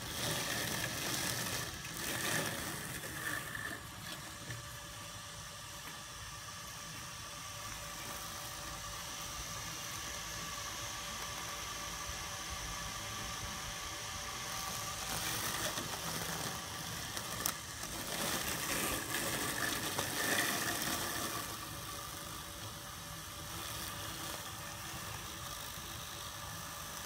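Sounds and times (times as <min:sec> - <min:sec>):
robotic mower whine: 0:00.0 - 0:27.0.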